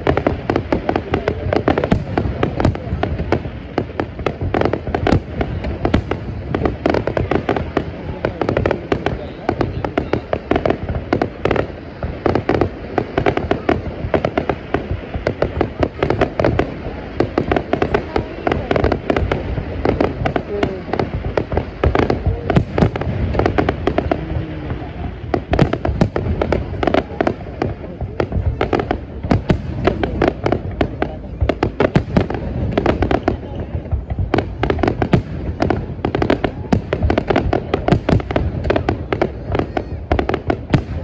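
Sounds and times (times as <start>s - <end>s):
fireworks bangs and crackles: 0.0s - 41.0s.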